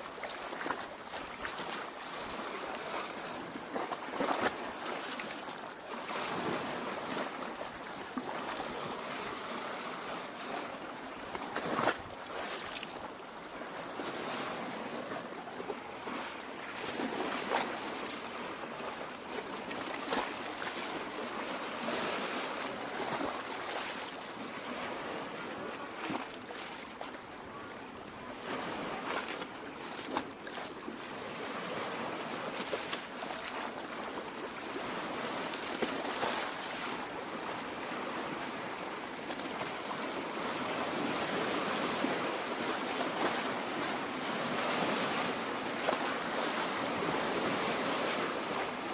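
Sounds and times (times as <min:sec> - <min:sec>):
water lapping at shore: 0:00.0 - 0:48.9.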